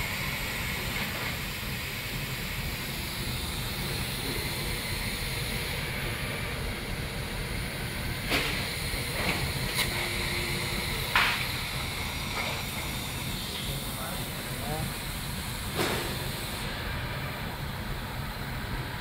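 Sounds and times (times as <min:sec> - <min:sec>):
machine hiss and hum: 0:00.0 - 0:19.0.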